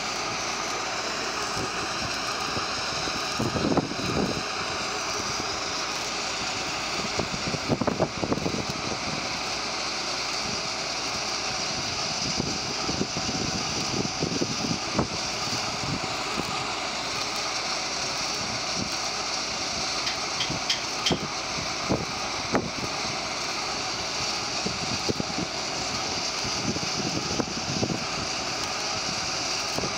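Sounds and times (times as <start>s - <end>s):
tram humming and hissing: 0.0s - 29.9s.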